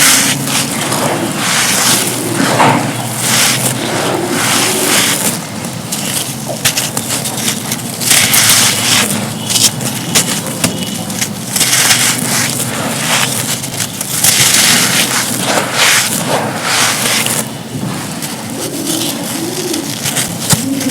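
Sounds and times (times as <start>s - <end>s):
hands crumbling dry moulded cups: 0.0s - 20.9s.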